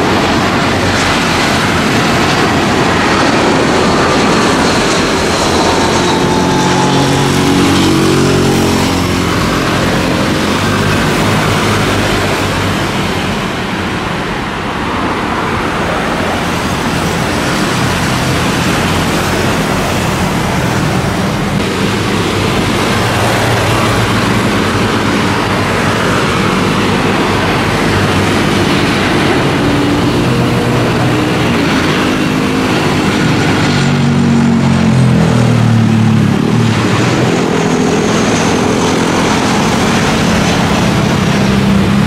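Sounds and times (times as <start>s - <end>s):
jet airliner engines roaring: 0.0s - 42.0s
road traffic: 0.0s - 42.0s.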